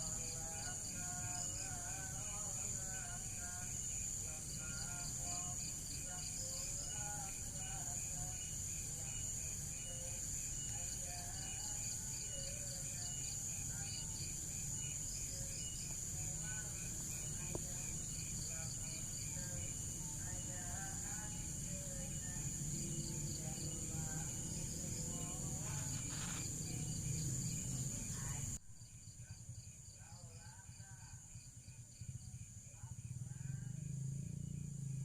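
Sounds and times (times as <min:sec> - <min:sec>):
high insect drone: 0:00.0 - 0:35.0
insects chirping in pulses: 0:00.0 - 0:35.0.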